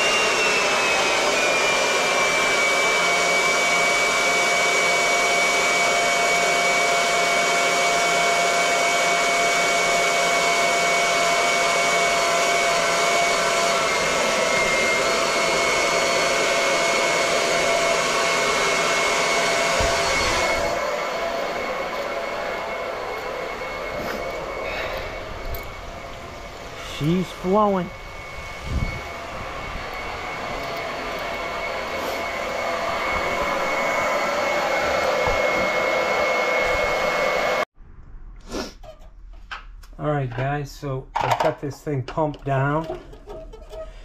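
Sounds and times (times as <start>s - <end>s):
electric pump motor whine: 0.0s - 37.7s.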